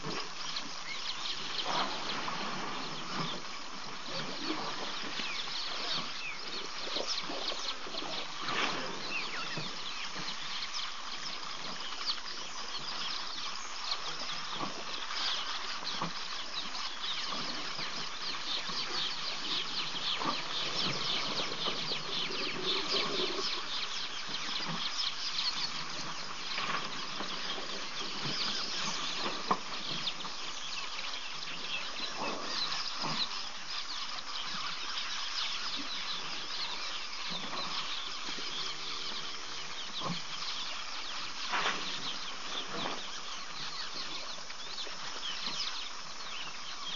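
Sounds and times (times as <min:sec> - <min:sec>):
small birds chattering: 0:00.0 - 0:46.9.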